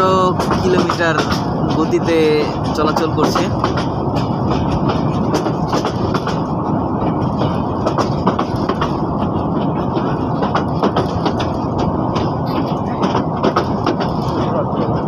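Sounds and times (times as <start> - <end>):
train rumbling: 0.0 - 15.0
wheels clicking and knocking on rails: 0.0 - 15.0.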